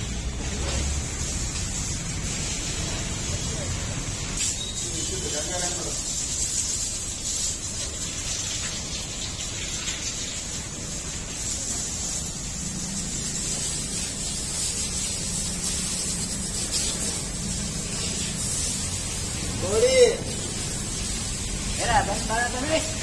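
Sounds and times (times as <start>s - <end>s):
water splashing on wet floor: 0.0s - 23.0s
water spraying from a hose: 0.0s - 23.0s.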